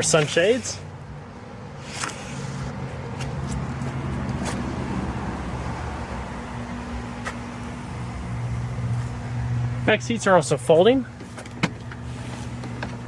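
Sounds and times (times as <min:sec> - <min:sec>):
steady low hum: 0:00.6 - 0:13.0.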